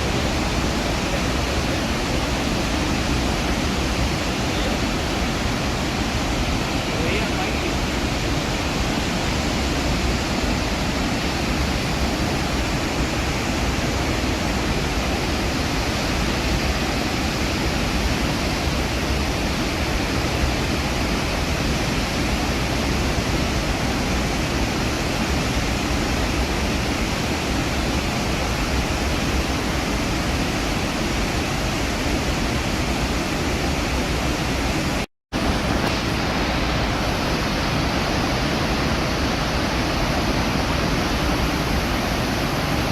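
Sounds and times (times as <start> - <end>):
roar of waterfall: 0.0 - 42.9.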